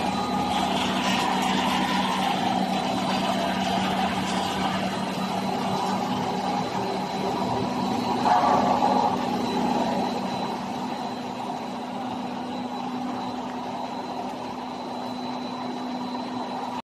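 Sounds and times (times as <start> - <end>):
high whine: 0.0 - 16.8
production line machinery humming: 0.0 - 16.8.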